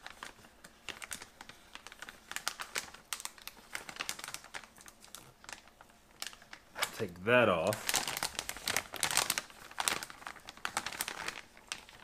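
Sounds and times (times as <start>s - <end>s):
thick plastic film crinkling: 0.0s - 12.0s.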